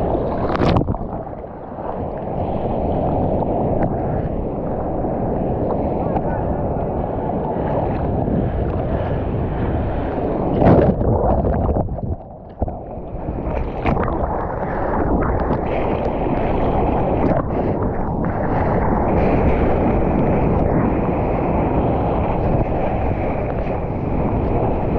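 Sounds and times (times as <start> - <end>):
seawater sloshing and splashing: 0.0 - 24.9
wind on microphone: 0.0 - 24.9.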